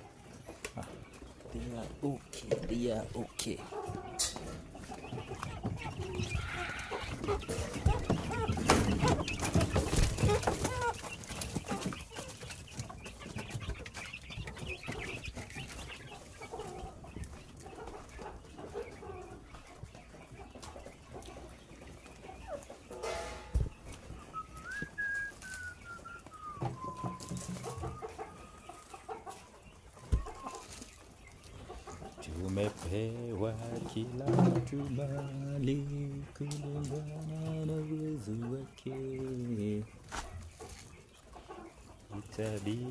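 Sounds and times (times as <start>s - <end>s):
chickens clucking and calling: 0.0s - 42.9s.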